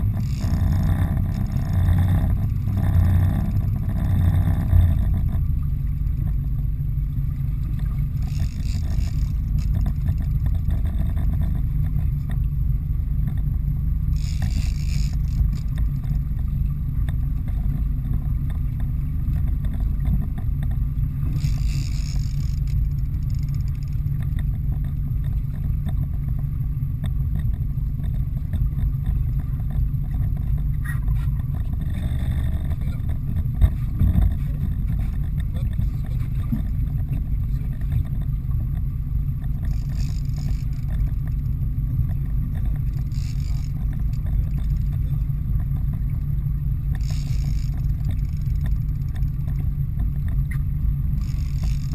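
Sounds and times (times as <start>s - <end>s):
boat engine rumbling: 0.0s - 51.9s.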